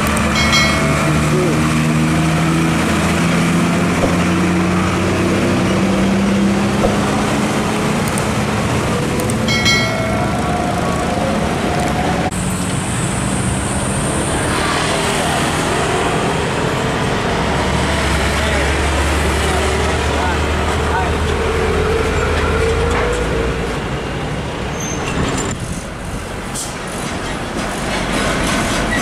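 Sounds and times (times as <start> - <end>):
diesel trucks driving past: 0.0 - 29.0
traffic noise: 0.0 - 29.0.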